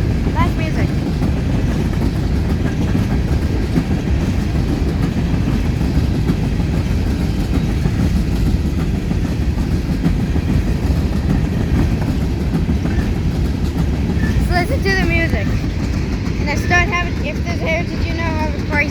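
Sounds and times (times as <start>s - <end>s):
freight train wheels rumbling: 0.0s - 18.9s
wheels clickety-clack over joints: 0.0s - 18.9s.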